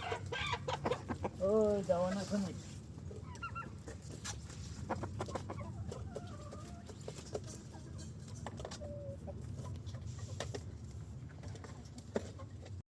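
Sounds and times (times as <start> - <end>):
chickens clucking: 0.0 - 12.8.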